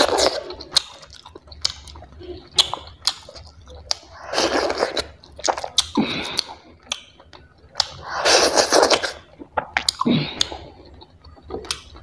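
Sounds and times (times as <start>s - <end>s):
lip smacks: 0.1s - 12.0s.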